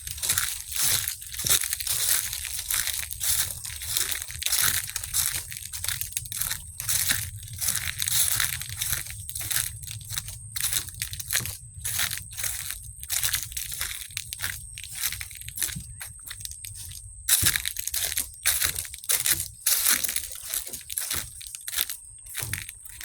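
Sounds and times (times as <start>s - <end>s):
footsteps crunching dry leaves: 0.0s - 23.0s.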